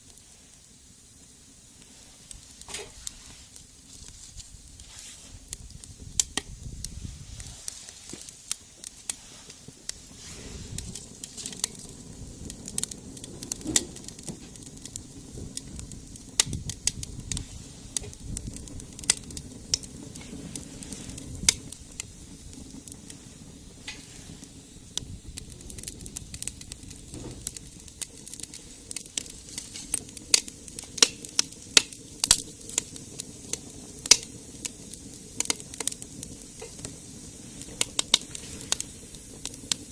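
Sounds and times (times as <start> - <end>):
egg sizzling in a pan: 0.0 - 39.9
pops and crackles: 0.0 - 39.9.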